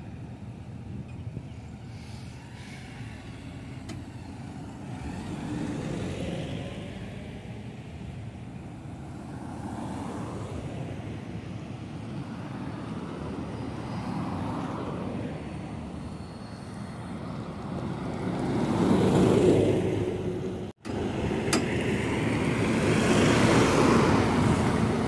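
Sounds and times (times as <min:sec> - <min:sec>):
cars and bus driving by: 0:00.0 - 0:25.0.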